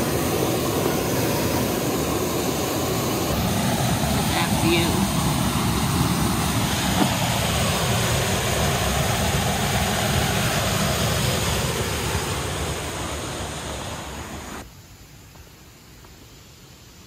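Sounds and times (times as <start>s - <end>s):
river whitewater rushing: 0.0s - 14.6s.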